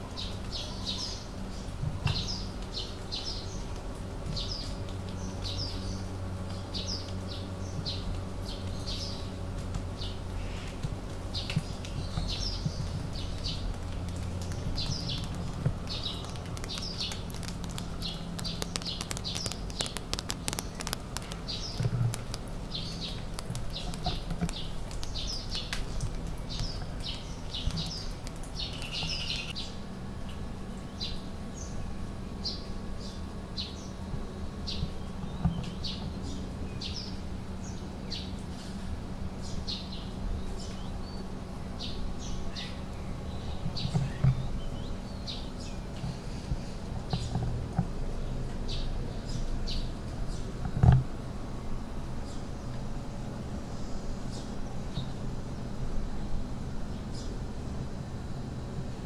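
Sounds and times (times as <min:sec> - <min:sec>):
small birds chirping: 0:00.0 - 0:57.6
steady low hum: 0:00.0 - 0:59.0.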